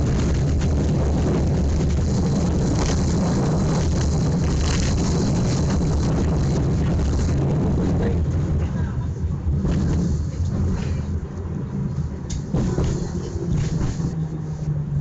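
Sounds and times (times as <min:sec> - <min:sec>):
tram rumble and hum: 0:00.0 - 0:15.0.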